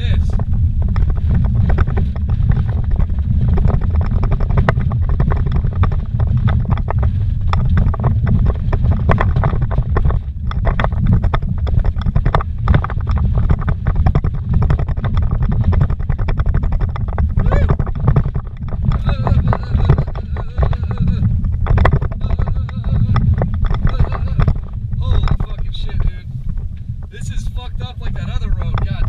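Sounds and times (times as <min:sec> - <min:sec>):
knocks and rattles from stones: 0:00.0 - 0:27.1, 0:27.8 - 0:29.0
vehicle rumbling on rough road: 0:00.0 - 0:29.0.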